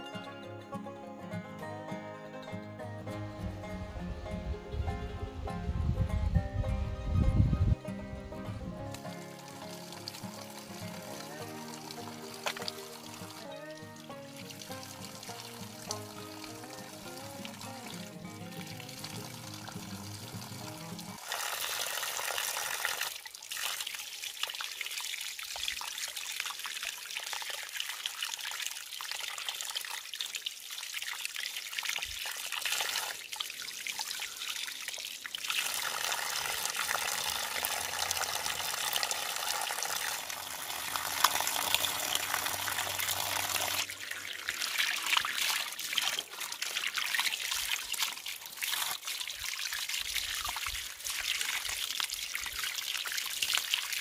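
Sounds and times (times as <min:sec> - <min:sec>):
water splashing onto rocks: 0:08.9 - 0:13.5, 0:14.1 - 0:54.0.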